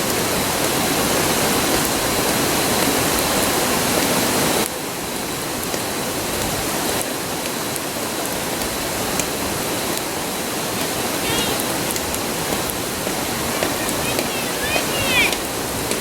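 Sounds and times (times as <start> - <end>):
campfire crackles: 0.0 - 16.0
river rushing: 0.0 - 16.0.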